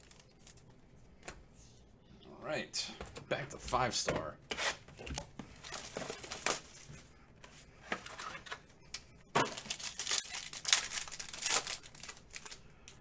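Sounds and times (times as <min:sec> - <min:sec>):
cards and packaging rustling: 0:00.0 - 0:01.5, 0:03.0 - 0:13.0.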